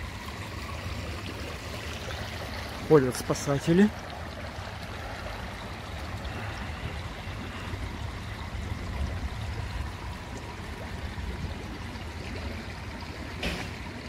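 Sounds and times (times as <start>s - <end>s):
low uneven rumble: 0.0s - 14.0s
running water: 0.0s - 14.0s.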